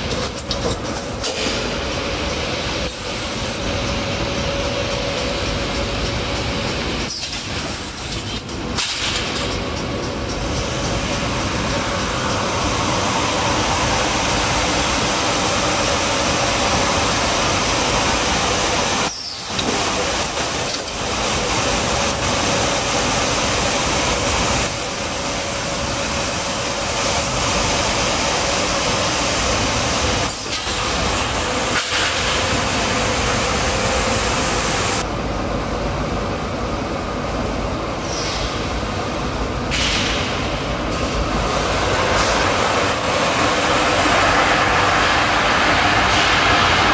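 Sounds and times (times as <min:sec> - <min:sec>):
loud machinery noise: 0:00.0 - 0:46.9.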